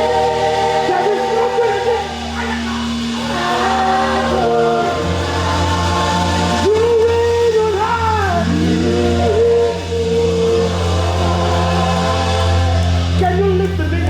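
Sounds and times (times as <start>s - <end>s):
keyboard bass pad: 0.0s - 14.0s
singers holding wordless notes: 0.0s - 14.0s.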